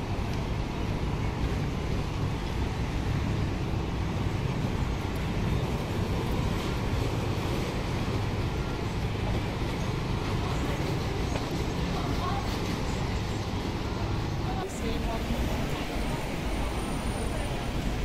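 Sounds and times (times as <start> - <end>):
ferry diesel engines rumbling: 0.0 - 18.0
waterfront noise: 0.0 - 18.0.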